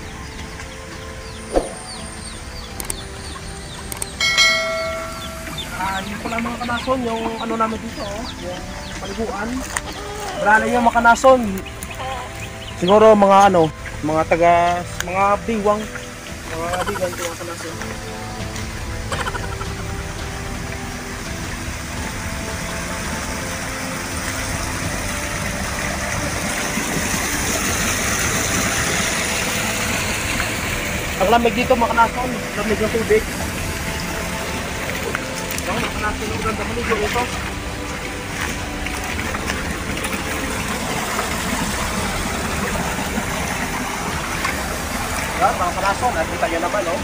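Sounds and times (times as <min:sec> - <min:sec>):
creek running over rocks: 0:00.0 - 0:47.0
water sloshing from wading: 0:00.7 - 0:47.0.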